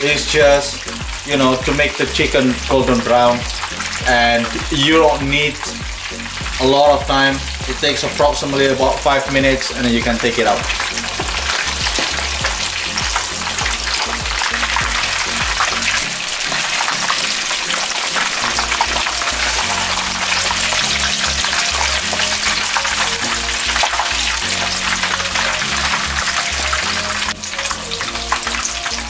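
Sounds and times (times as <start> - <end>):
background music: 0.0 - 29.0
chicken deep-frying in oil: 0.0 - 29.0.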